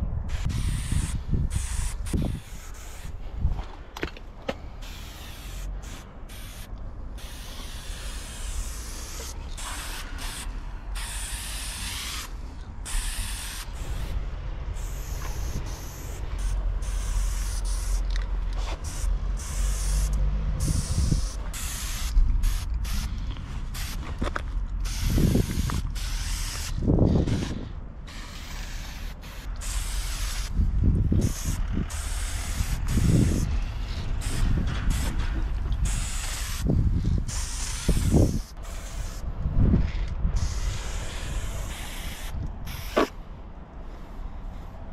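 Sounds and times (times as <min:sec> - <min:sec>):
spray-paint can hissing: 0:00.3 - 0:03.2, 0:04.8 - 0:24.2, 0:24.8 - 0:27.5, 0:28.1 - 0:30.5, 0:31.2 - 0:35.2, 0:35.8 - 0:39.3, 0:40.4 - 0:43.2.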